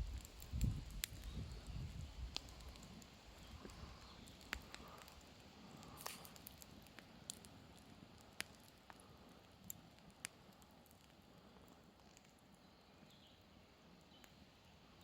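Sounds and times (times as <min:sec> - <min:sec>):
faint hiss: 0:00.0 - 0:15.0
firewood crackling: 0:00.0 - 0:15.0.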